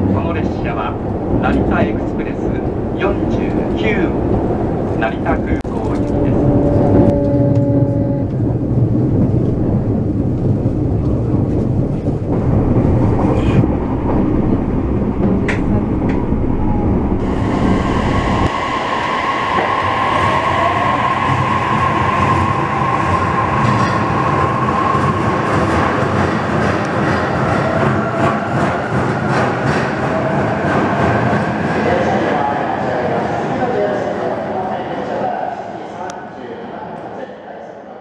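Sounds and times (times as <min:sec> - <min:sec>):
train rumbling: 0:00.0 - 0:36.3.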